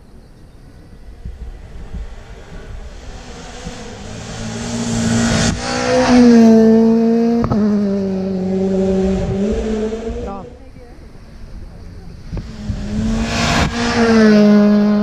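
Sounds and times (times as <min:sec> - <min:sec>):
rally car engine passing: 0:00.7 - 0:15.0.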